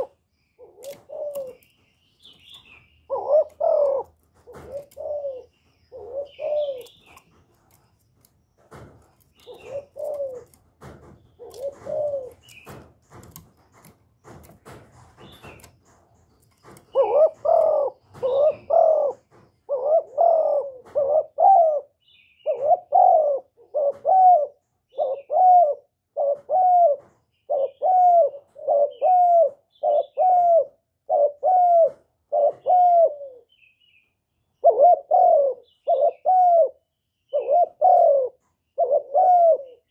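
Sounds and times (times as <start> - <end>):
dove cooing: 0.0 - 1.8, 2.5 - 7.8, 8.7 - 12.8, 16.6 - 33.5, 34.6 - 39.9.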